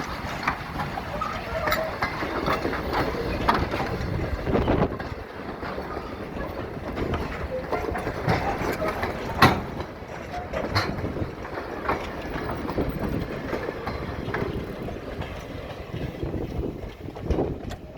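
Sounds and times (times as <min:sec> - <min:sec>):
train rumbling past: 0:00.0 - 0:17.9
wheels clicking over rail joints: 0:00.0 - 0:17.9.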